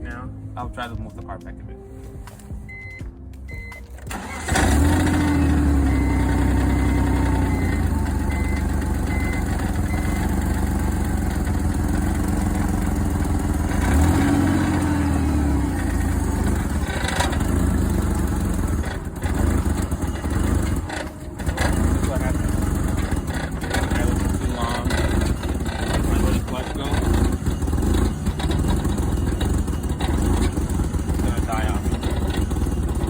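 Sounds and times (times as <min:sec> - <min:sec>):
car engine starting and running: 0:00.0 - 0:33.0.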